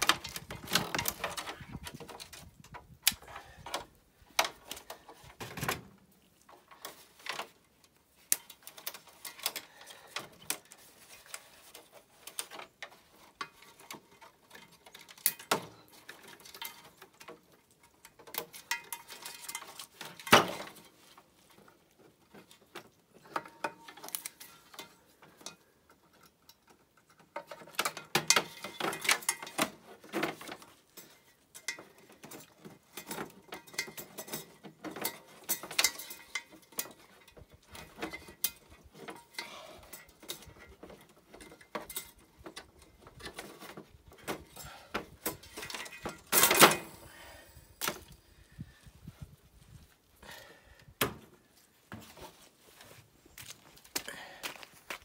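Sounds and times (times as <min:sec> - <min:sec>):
parts clicking and rattling: 0:00.0 - 0:48.2.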